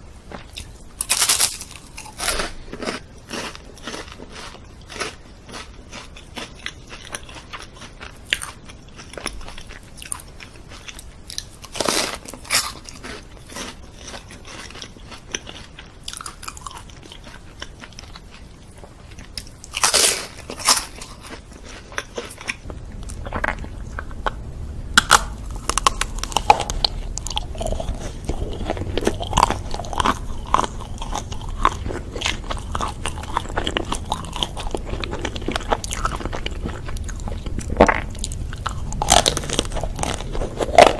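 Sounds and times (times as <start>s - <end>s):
crunchy bites and chewing: 0.3s - 40.9s.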